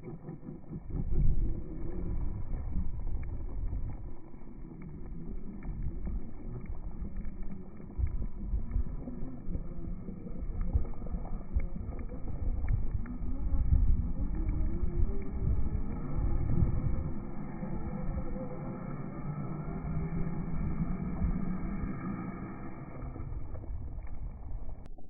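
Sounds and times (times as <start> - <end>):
wind on microphone: 0.7 - 24.9.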